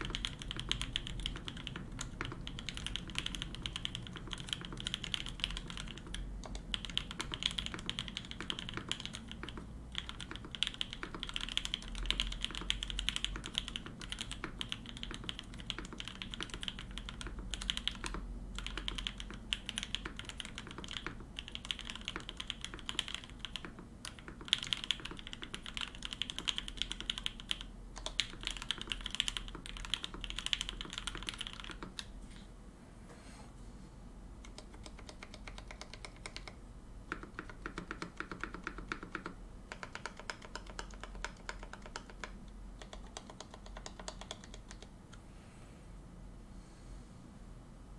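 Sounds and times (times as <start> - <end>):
mechanical keyboard typing: 0.0 - 32.1, 34.4 - 44.9.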